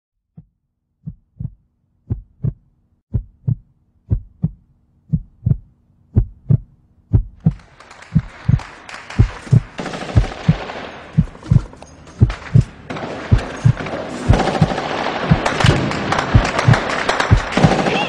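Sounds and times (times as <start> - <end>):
heartbeat thumps: 0.3 - 17.6.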